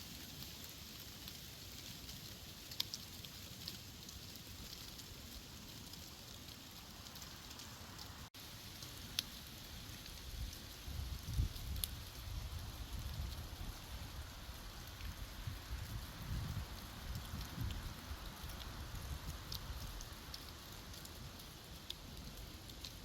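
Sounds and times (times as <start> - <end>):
wind rustling dry leaves: 0.0 - 23.0.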